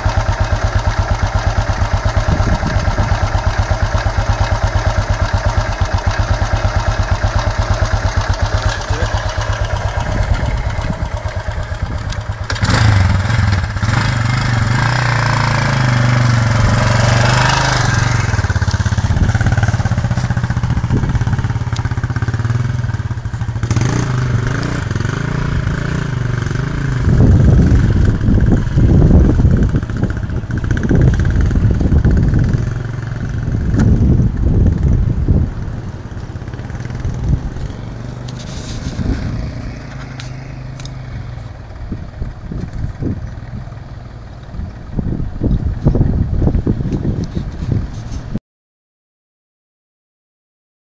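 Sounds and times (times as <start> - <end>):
motorcycle engine idling and revving: 0.0 - 48.4.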